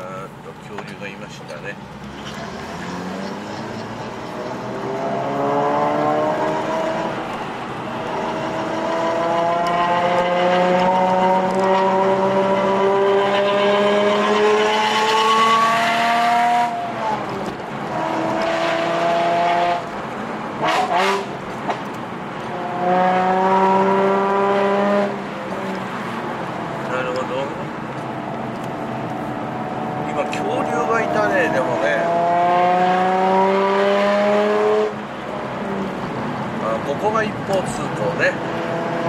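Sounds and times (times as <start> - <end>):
car engine accelerating: 1.8 - 39.0.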